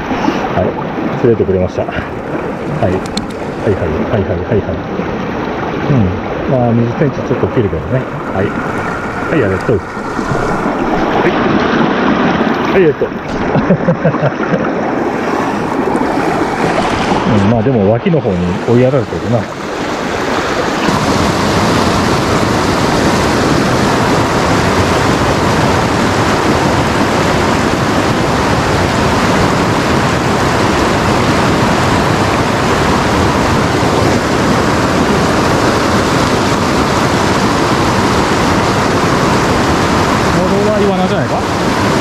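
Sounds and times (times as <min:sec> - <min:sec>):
river rushing over rocks: 0:00.0 - 0:13.6, 0:14.5 - 0:42.0.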